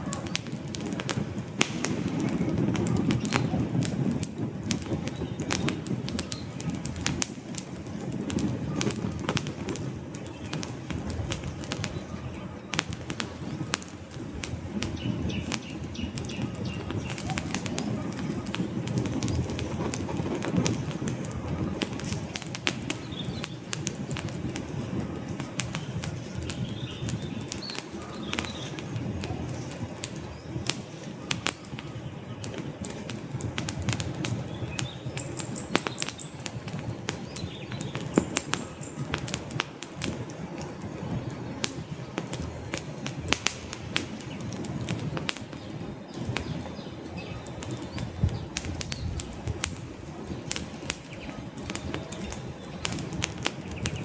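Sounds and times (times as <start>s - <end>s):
low rush of burning flames: 0.0s - 54.0s
wood fire crackling and popping: 0.0s - 54.0s.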